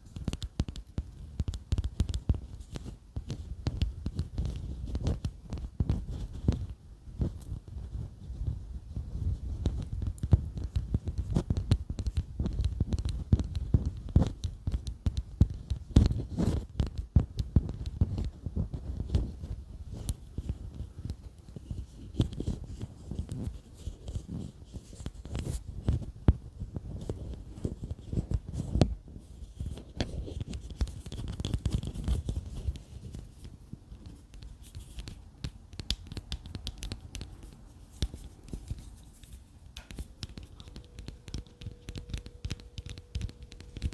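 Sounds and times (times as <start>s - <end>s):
soft tapping and scratching: 0.0s - 43.9s.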